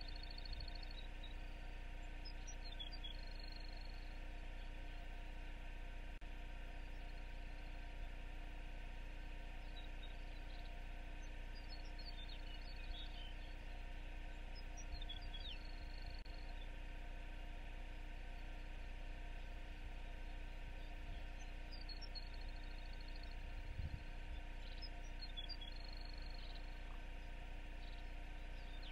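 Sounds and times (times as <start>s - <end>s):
microphone hiss and hum: 0.0s - 28.9s.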